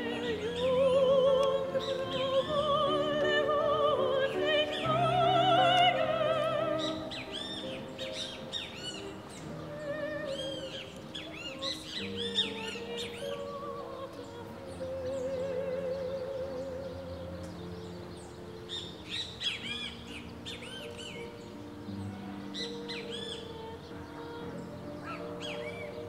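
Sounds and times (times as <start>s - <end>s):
operatic singing: 0.0s - 18.1s, 21.2s - 26.0s
birds chirping: 0.0s - 26.0s
orchestral accompaniment: 0.0s - 26.0s
quiet held music notes: 0.0s - 26.0s.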